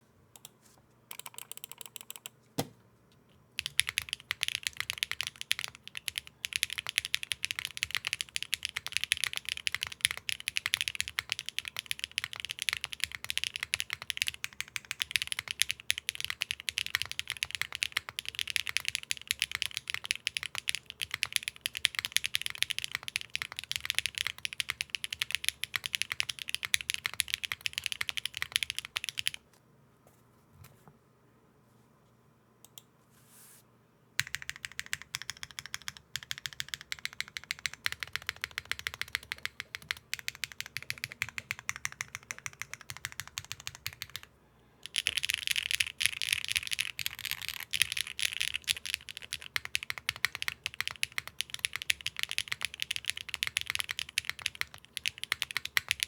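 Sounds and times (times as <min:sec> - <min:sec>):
mechanical keyboard typing: 0:01.1 - 0:02.3, 0:03.6 - 0:29.4, 0:34.2 - 0:56.0.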